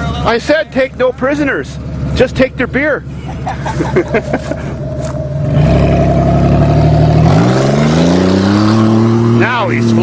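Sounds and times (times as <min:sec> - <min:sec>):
car engine revving: 0:01.6 - 0:10.0.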